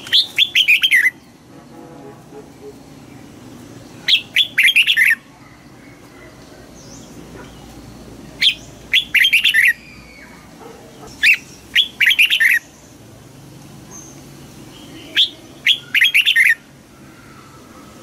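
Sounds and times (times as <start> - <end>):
bulbul singing: 0.0 - 13.1, 13.8 - 18.0.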